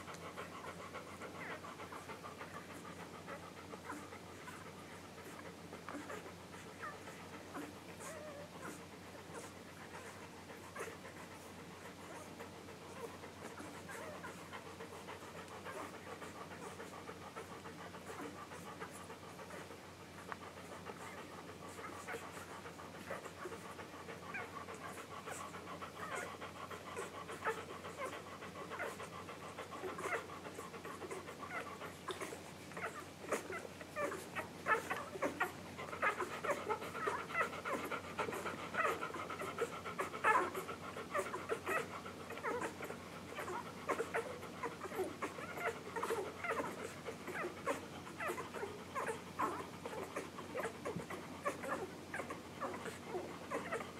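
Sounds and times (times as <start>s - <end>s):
puppies nursing sucking sounds: 0.0s - 53.9s.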